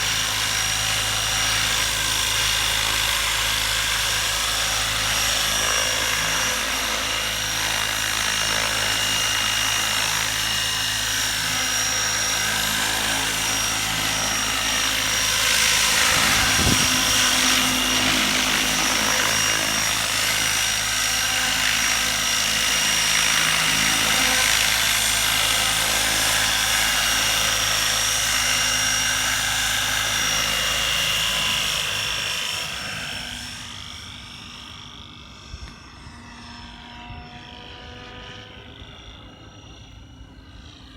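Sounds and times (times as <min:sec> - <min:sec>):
model helicopter motor whine: 0:00.0 - 0:40.9.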